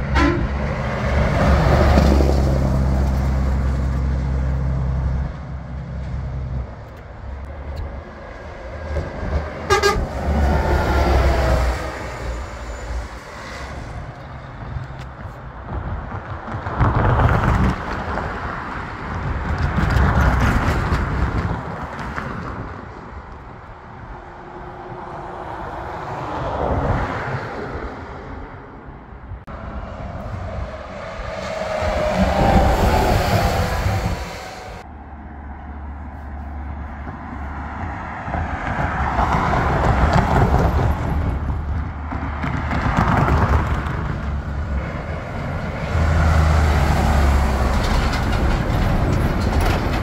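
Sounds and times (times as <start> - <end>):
diesel vehicles passing with engine brakes: 0.0 - 50.0.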